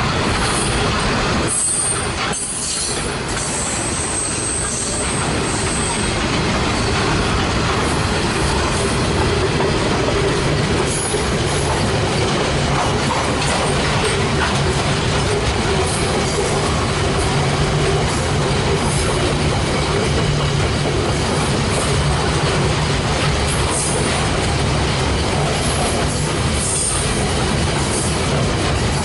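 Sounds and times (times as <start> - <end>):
steel wheels rumbling on rail: 0.0 - 29.0.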